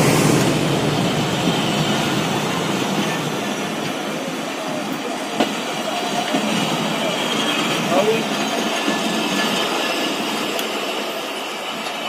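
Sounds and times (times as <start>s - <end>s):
train wheels running on track: 0.0s - 12.0s.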